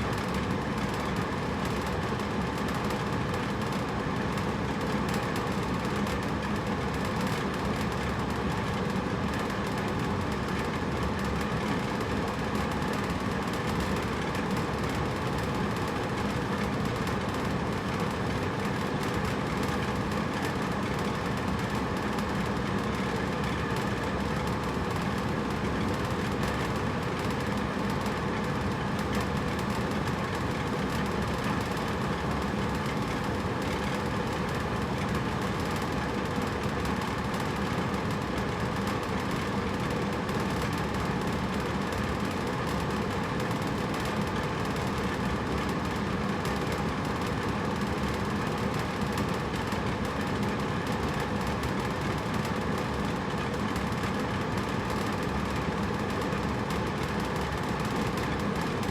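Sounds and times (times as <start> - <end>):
air conditioner whirring: 0.0 - 58.9.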